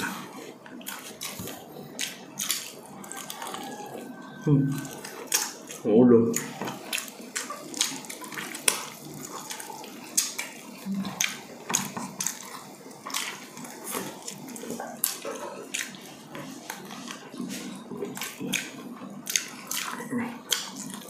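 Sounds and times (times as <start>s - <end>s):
wet chewing and lip smacking: 0.0s - 21.0s.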